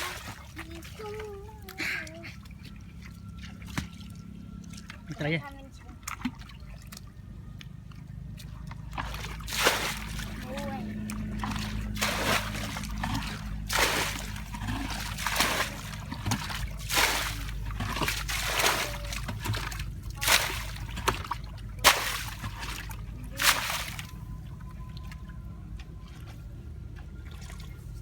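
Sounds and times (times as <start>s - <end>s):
shallow water splashing: 0.0s - 28.0s
steady low hum: 0.0s - 28.0s.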